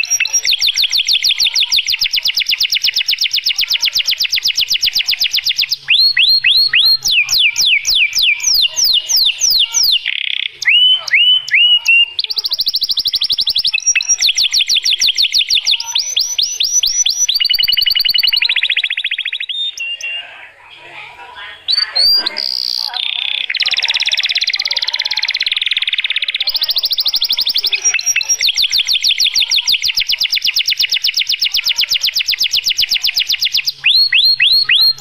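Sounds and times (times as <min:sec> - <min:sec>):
canary singing rapid trills: 0:00.0 - 0:35.0.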